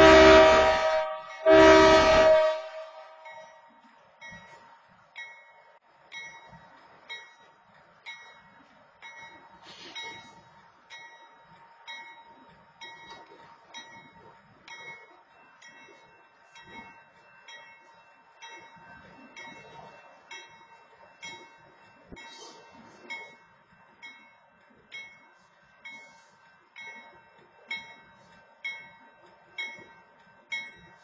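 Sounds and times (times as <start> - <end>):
railroad crossing bell ringing: 0.0 - 31.0.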